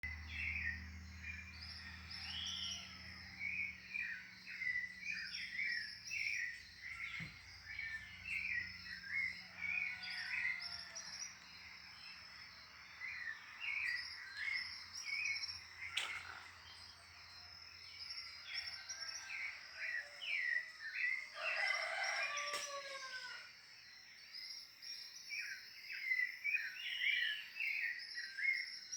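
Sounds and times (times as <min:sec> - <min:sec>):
small birds chirping and singing: 0:00.0 - 0:28.9.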